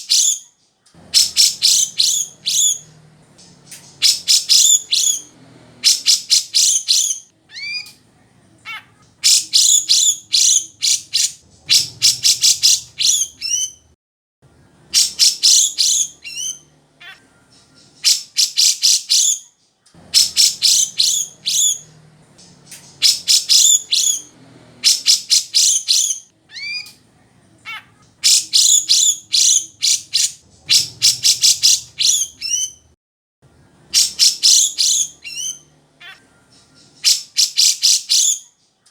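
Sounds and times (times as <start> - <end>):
bird chattering song: 0.0 - 13.9, 14.5 - 27.0, 27.6 - 32.9, 33.5 - 38.9.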